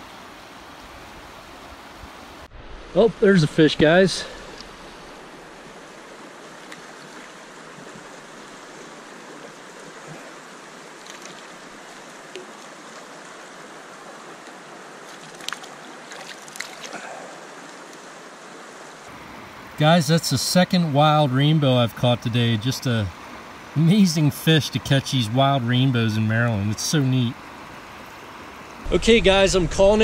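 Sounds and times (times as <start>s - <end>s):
stream flowing over rocks: 0.0s - 28.9s
water splashes: 0.0s - 30.0s.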